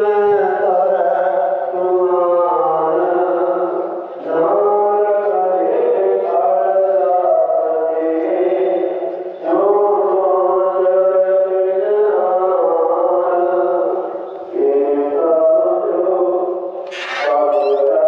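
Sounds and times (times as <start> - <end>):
person chanting: 0.0 - 18.0.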